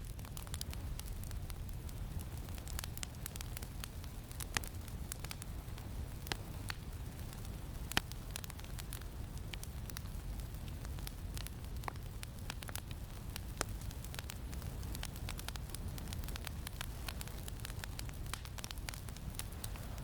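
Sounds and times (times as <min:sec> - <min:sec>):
campfire crackling and popping: 0:00.0 - 0:20.0
low rumble of wind: 0:00.0 - 0:20.0.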